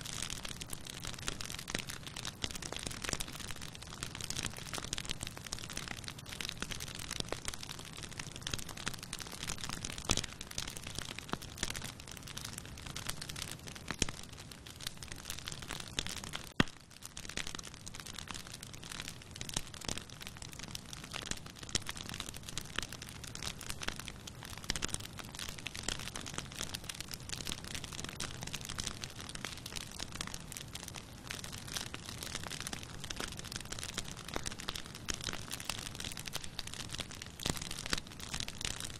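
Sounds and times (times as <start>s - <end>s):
wood crackling and snapping: 0.3s - 22.6s, 23.3s - 38.9s.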